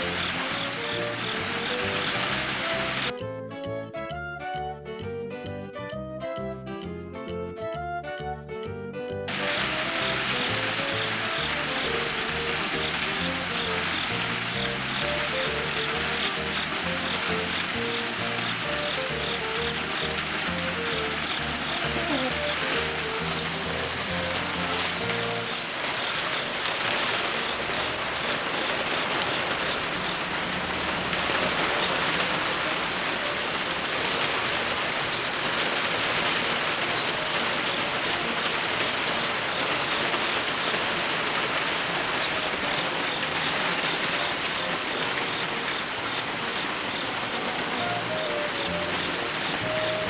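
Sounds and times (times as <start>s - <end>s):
heavy rain hissing: 0.0s - 3.1s, 9.3s - 50.0s
raindrops pattering: 0.0s - 3.1s, 9.3s - 50.0s.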